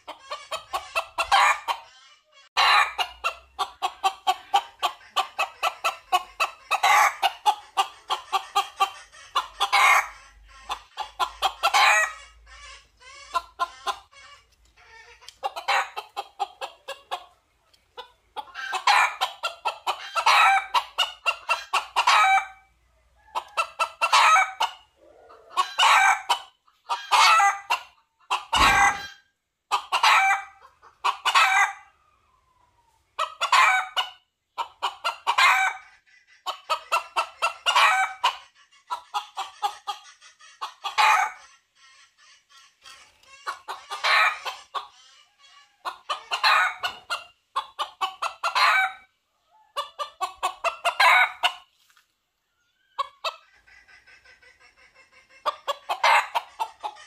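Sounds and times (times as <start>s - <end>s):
rooster clucking calls: 0.0s - 32.6s, 33.2s - 51.7s, 52.7s - 57.0s.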